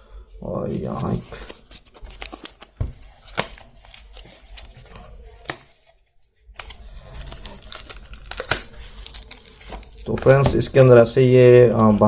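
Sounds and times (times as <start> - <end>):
cardboard packaging being opened: 0.6 - 5.9, 6.6 - 12.0.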